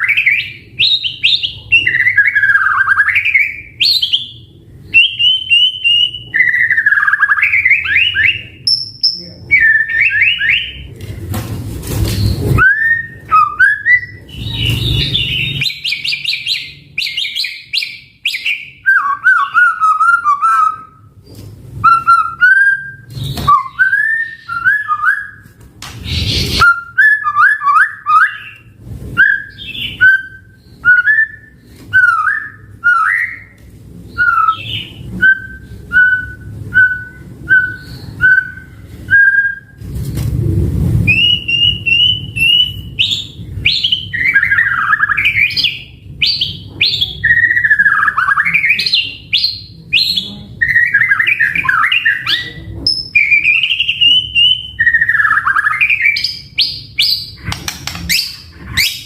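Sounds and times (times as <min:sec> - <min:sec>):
bird singing whistled phrases: 0:00.0 - 0:10.8, 0:12.5 - 0:21.0, 0:21.8 - 0:25.4, 0:29.2 - 0:39.8, 0:41.1 - 0:57.3.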